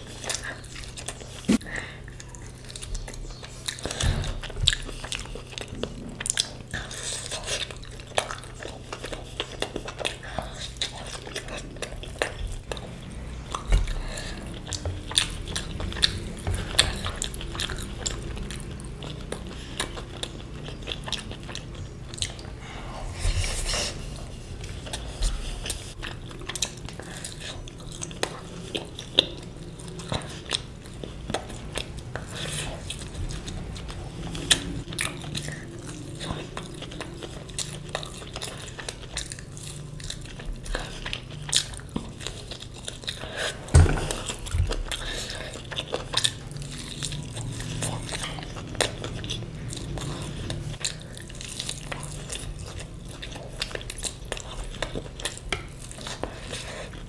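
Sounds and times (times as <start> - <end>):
chewing and biting: 0.0 - 57.0.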